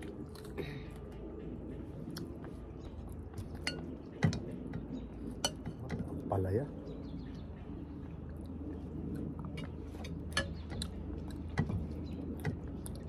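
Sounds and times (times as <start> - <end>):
faint chewing: 0.0 - 6.3, 7.3 - 13.0
steady low hum: 0.0 - 13.0.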